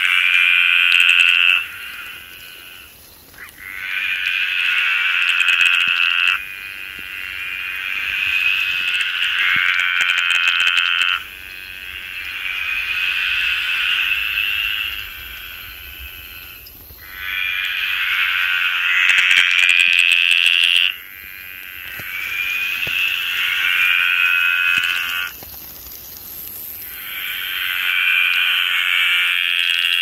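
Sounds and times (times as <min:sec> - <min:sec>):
tree frog trilling: 0:00.0 - 0:30.0.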